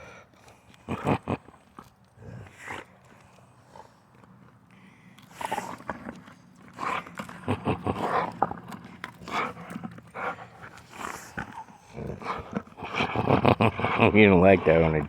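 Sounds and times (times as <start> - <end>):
stick cracking in dog's teeth: 0.3 - 12.8
dog growling: 2.2 - 15.0.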